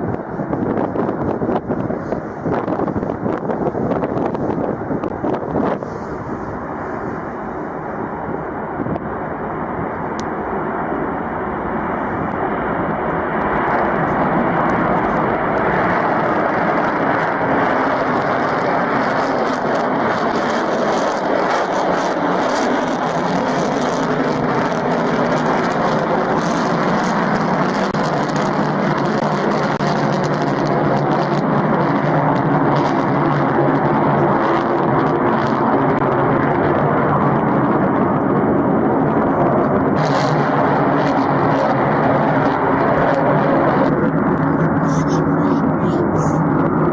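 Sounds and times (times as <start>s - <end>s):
aircraft engines running: 0.0s - 46.9s.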